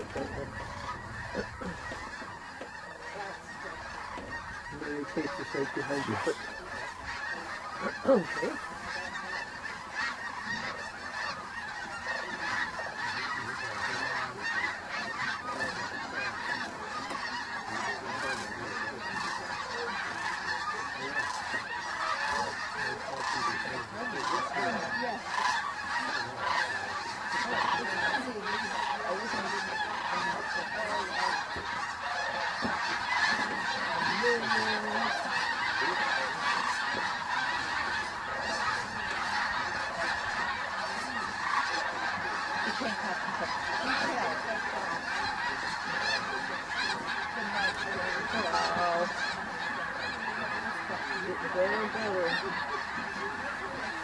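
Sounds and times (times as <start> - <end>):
flock of geese honking: 0.0 - 54.0.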